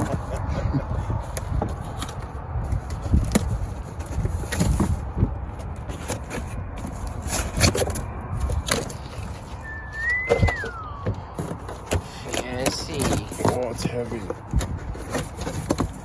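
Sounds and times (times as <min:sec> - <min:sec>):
box packing scrapes and crackles: 0:00.0 - 0:16.0.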